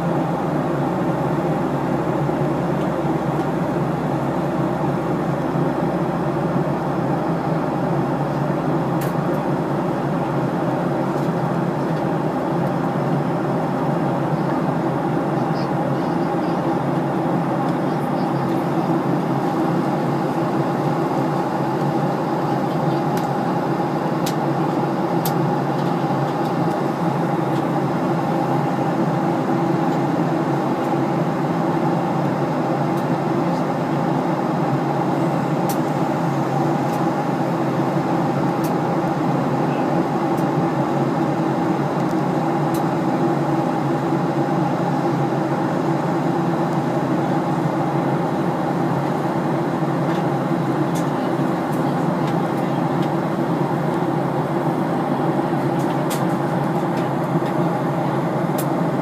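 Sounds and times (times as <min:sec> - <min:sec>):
airliner engine hum: 0:00.0 - 0:59.0.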